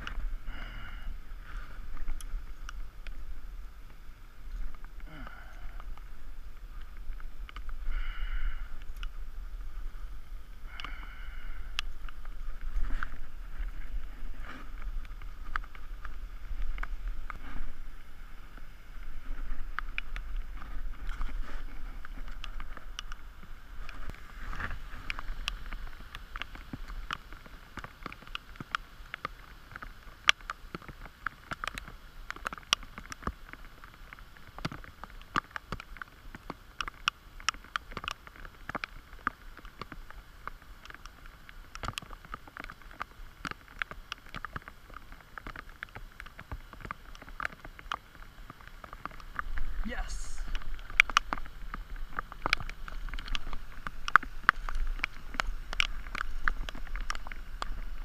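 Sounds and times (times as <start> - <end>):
fountain water spraying: 0.0 - 58.0
wind rumble on microphone: 0.0 - 58.0.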